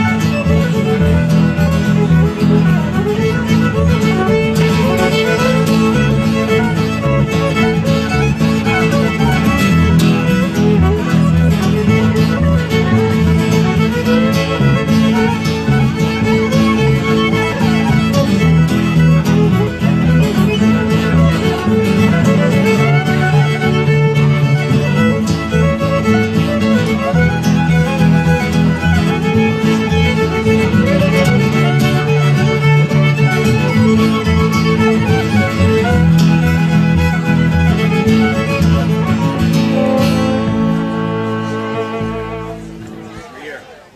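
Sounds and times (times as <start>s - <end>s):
fiddle playing dance tune: 0.0s - 43.7s
strummed guitar: 0.0s - 43.9s.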